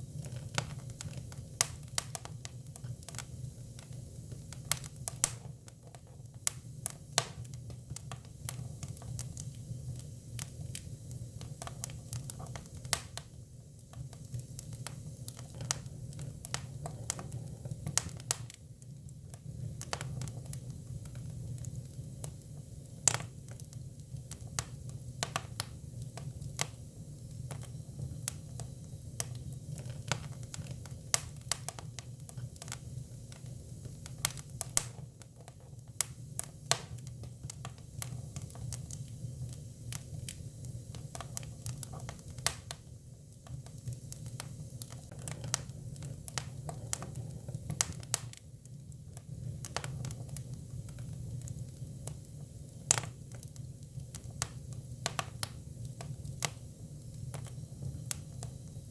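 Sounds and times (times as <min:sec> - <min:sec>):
firewood crackling and popping: 0:00.0 - 0:58.9.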